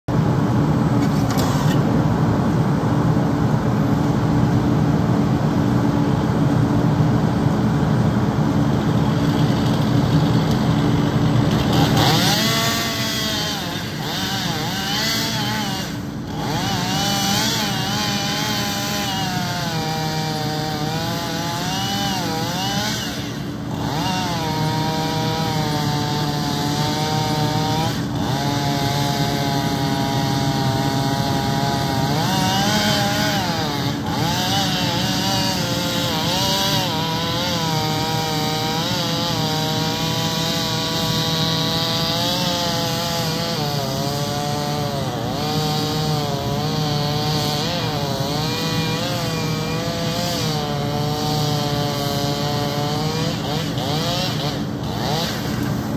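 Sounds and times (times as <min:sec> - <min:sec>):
heavy engine running: 0:00.1 - 0:55.9
chainsaw cutting log: 0:01.0 - 0:01.9, 0:08.8 - 0:55.9.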